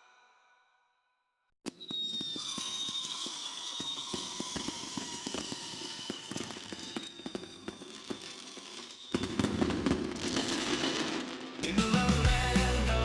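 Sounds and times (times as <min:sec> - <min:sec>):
fireworks crackling and bursting: 0:01.7 - 0:13.0.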